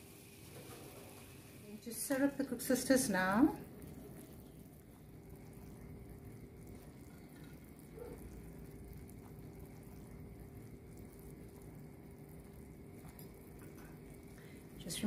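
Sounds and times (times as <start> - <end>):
syrup bubbling in a pot: 0.0 - 15.0.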